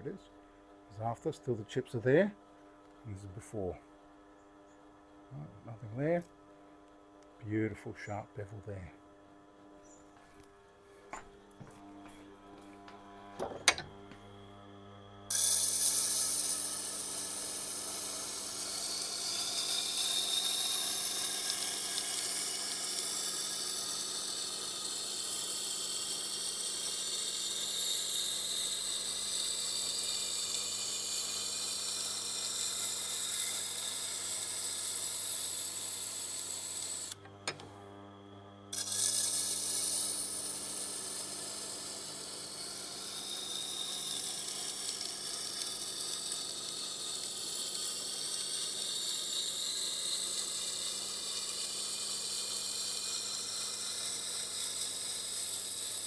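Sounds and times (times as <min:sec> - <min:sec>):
grinder motor hum: 0:00.0 - 0:56.0.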